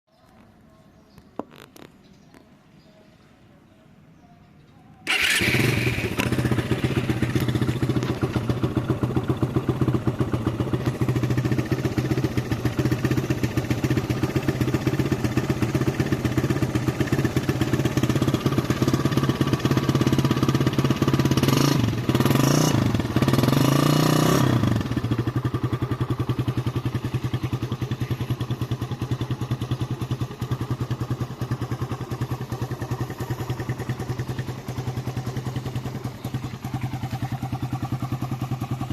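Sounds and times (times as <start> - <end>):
motorcycle engine idling: 5.0 - 38.9
motorcycle engine revving: 5.1 - 38.9.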